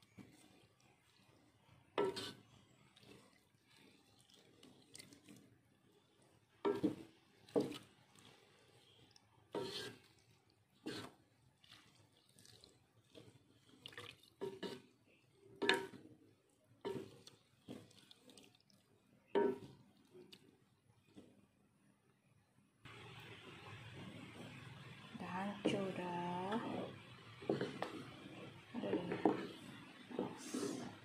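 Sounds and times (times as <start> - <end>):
spatula scraping against pot: 0.0 - 16.2, 16.8 - 20.4, 25.6 - 31.0
liquid sloshing in a pot: 0.0 - 21.9, 22.9 - 31.0.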